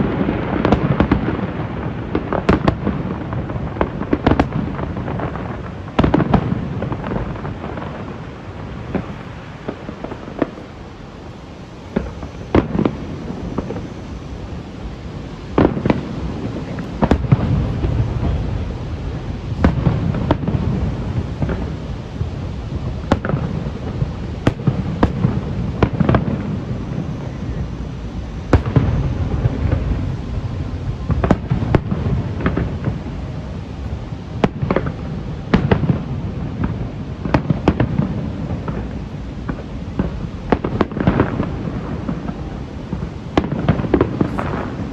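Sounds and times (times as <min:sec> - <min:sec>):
firework shells bursting: 0:00.0 - 0:44.9
low rumble and crackle: 0:00.0 - 0:44.9.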